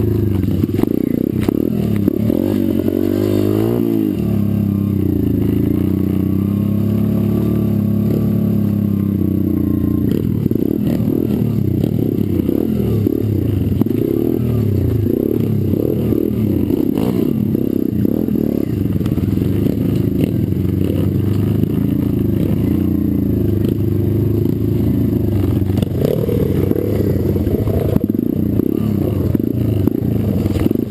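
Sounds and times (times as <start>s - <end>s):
pit bike engine revving: 0.0s - 30.9s.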